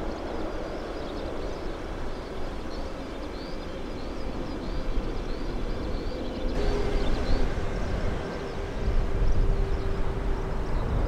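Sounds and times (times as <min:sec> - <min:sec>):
distant jet engine rumble: 0:00.0 - 0:11.0.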